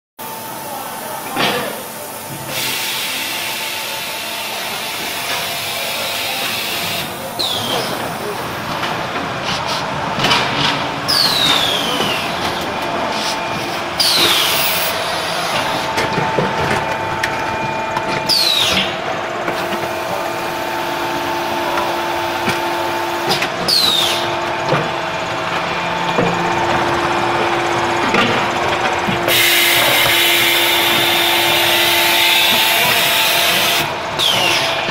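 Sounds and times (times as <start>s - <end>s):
concrete mixer machinery humming: 0.2s - 34.9s.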